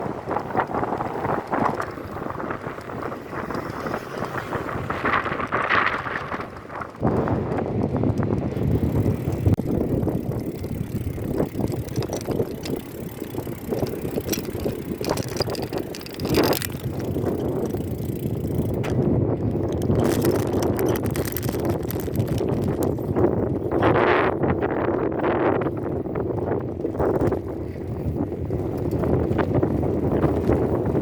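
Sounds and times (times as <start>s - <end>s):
bike clicks and rattles: 0.0s - 31.0s
road and wind noise: 0.0s - 31.0s.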